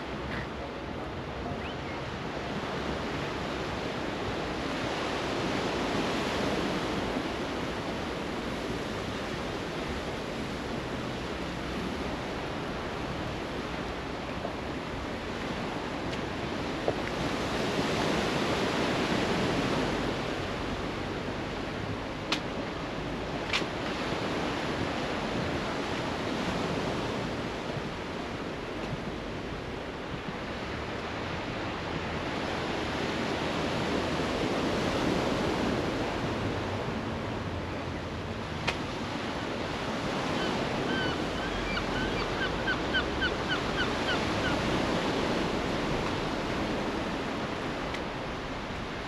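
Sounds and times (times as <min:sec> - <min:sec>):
wind: 0:00.0 - 0:49.0
sea waves breaking on beach: 0:02.1 - 0:49.0.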